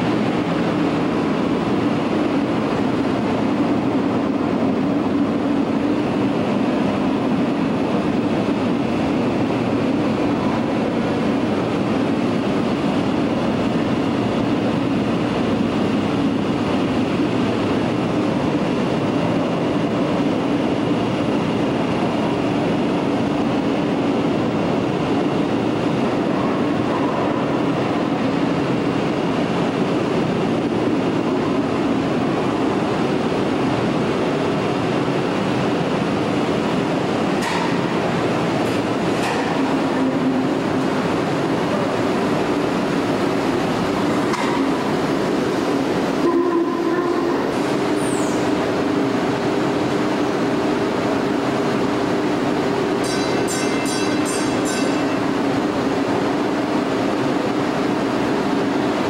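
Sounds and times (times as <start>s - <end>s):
subway car rumbling: 0.0s - 59.0s.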